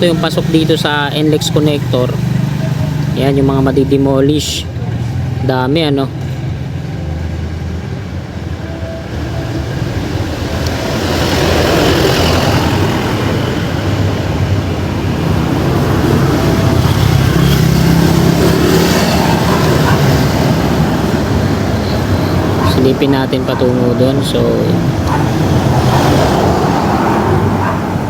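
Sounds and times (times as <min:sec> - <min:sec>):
vehicles passing close by: 0:00.0 - 0:28.0.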